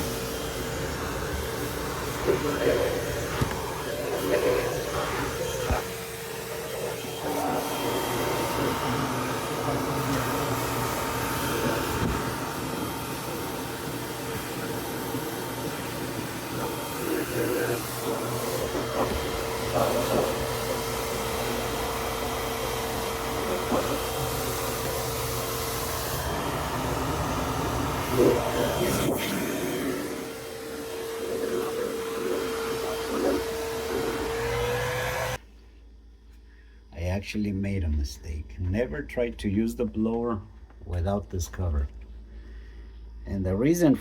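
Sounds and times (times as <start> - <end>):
refrigerator fan whirring: 0.0 - 44.0.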